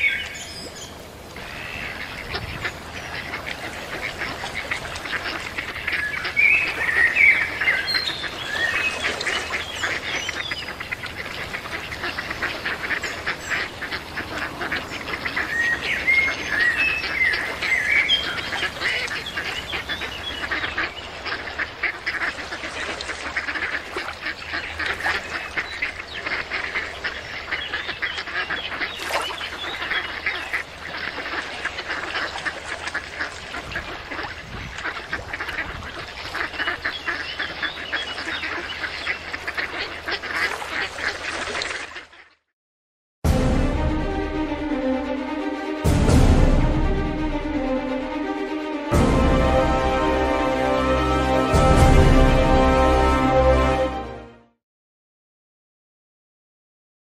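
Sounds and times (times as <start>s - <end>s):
ducks quacking: 1.4s - 42.4s, 44.0s - 54.1s.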